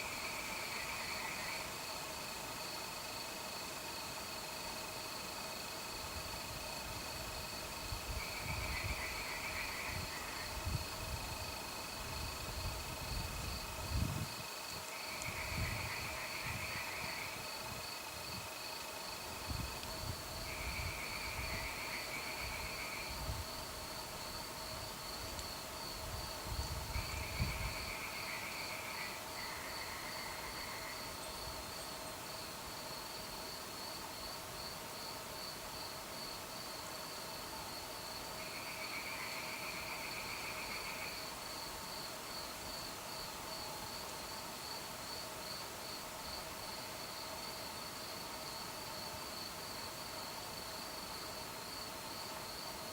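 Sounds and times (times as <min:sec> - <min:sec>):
crickets chirping: 0:00.0 - 0:52.9
lower insect trill: 0:00.0 - 0:52.9.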